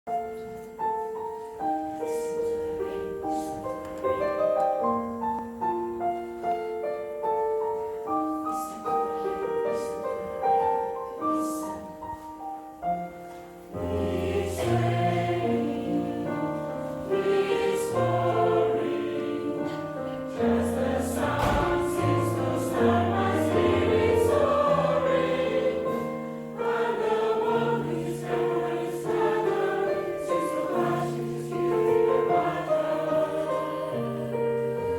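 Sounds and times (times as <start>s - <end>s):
choir singing: 0.4s - 34.9s.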